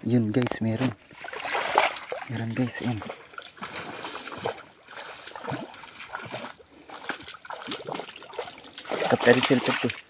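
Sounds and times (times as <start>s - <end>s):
hand splashing in wet mud: 1.2s - 10.0s.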